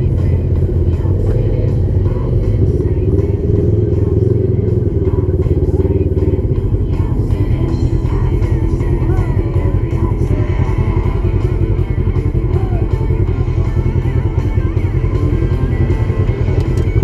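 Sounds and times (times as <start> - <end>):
music playing: 0.0 - 17.0
utility vehicle engine running: 0.0 - 17.0.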